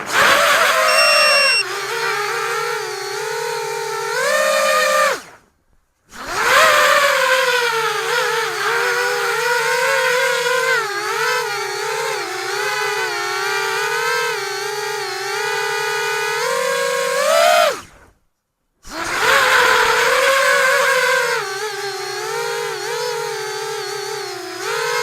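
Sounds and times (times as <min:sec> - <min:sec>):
quadcopter motors whining: 0:00.1 - 0:05.2, 0:06.3 - 0:17.9, 0:18.9 - 0:25.0.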